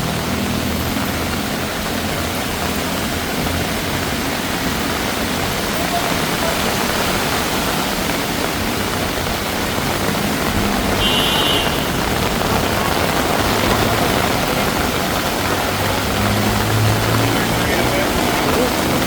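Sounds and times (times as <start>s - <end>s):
heavy rain pouring: 0.0s - 19.0s
running water: 0.0s - 19.0s
vehicle engine hum: 0.0s - 19.0s.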